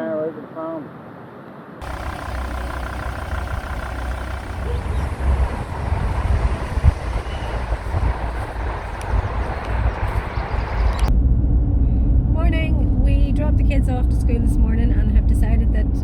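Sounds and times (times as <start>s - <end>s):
engine and road rumble: 1.8s - 16.0s.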